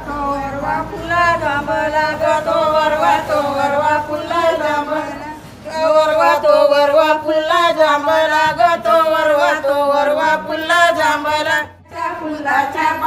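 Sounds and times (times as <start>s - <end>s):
person singing folk song: 0.0s - 13.0s.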